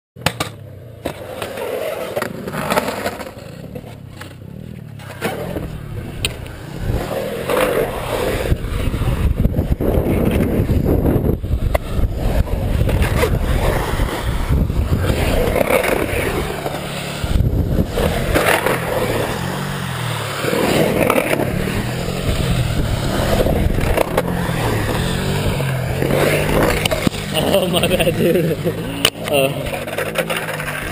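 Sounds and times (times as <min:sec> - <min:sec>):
skateboard clacks: 0:00.2 - 0:30.9
skateboard wheels rolling on concrete: 0:00.2 - 0:30.9.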